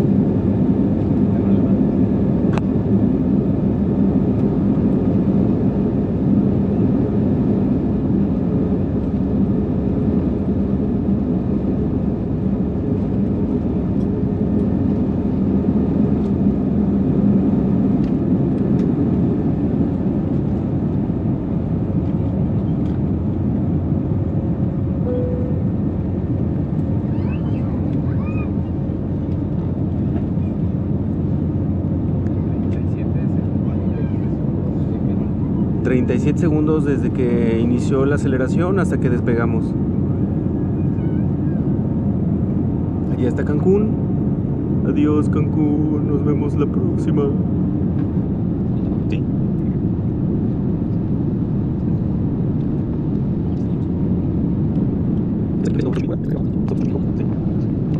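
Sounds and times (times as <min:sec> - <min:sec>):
jet engines roaring in cabin: 0:00.0 - 0:57.9.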